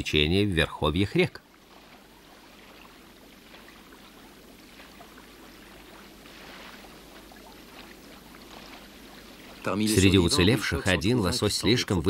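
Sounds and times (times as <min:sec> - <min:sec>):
faint rushing river: 0:00.0 - 0:12.0.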